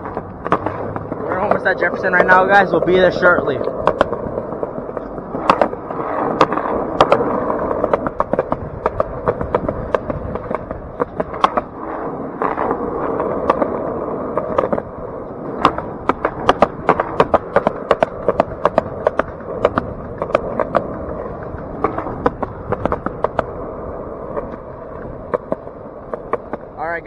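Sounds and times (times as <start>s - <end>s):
skateboard wheels clacking on joints: 0.0s - 27.0s
skateboard wheels rolling on concrete: 0.0s - 27.0s.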